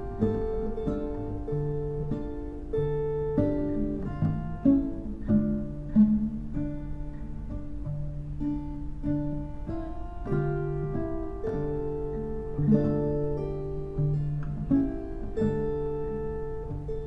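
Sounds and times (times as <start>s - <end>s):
plucked guitar melody: 0.0s - 17.0s.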